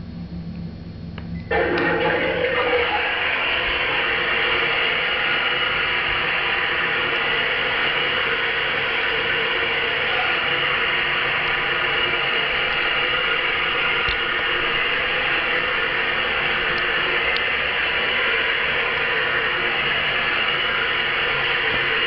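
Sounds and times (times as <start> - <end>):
toilet tank refilling hiss: 1.5 - 22.0.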